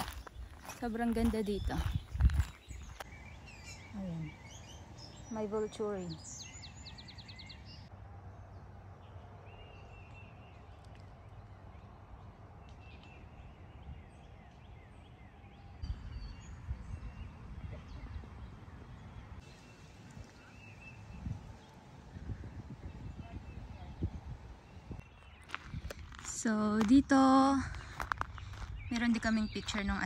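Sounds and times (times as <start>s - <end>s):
small birds chirping: 0.0s - 7.9s, 9.1s - 30.0s.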